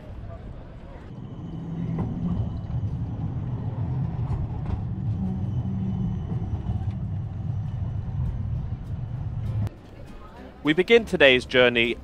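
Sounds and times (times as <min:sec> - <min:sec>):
tram and traffic rumble: 0:00.0 - 0:12.0.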